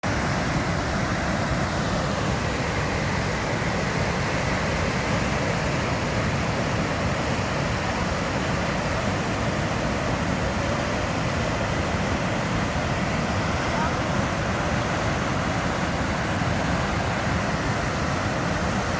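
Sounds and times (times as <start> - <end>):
water rushing: 0.0 - 18.9.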